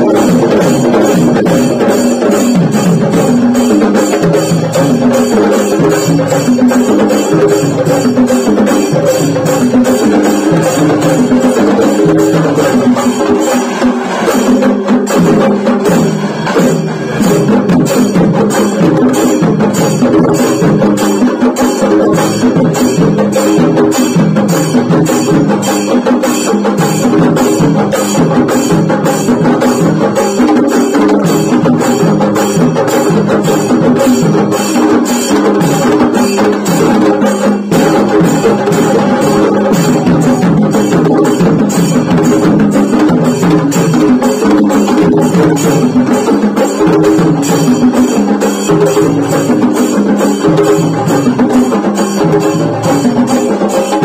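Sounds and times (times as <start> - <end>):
steady drum beat: 0.0 - 54.0.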